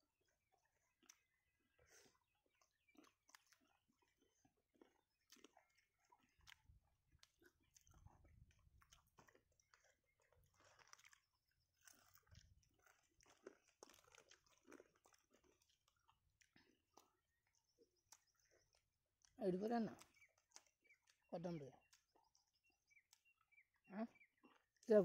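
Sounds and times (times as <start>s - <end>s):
faint chewing and biting: 0.0s - 25.0s.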